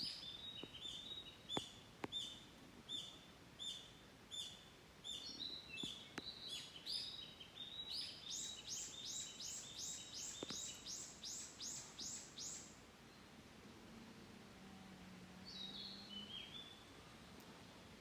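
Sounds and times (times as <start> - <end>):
songbird chirping: 0.0 - 18.0.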